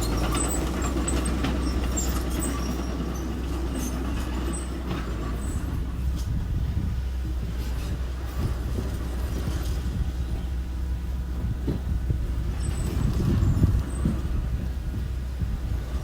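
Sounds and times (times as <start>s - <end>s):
construction machine humming: 0.0s - 16.0s
knocks and clatter: 0.0s - 16.0s.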